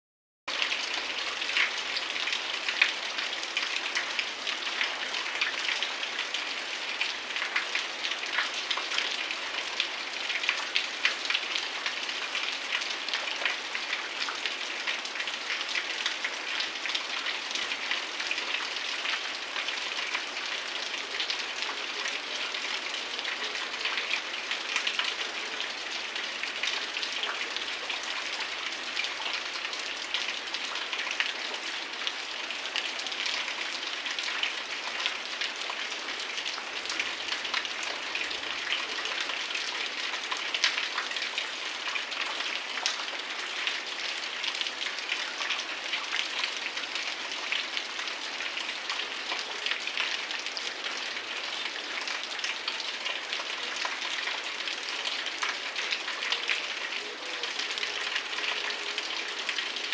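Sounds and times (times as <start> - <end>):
raindrops pattering on surfaces: 0.5 - 59.9.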